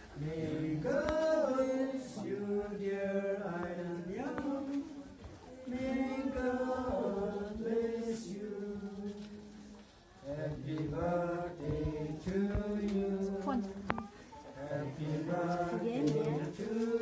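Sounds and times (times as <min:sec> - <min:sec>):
people singing together: 0:00.0 - 0:17.0.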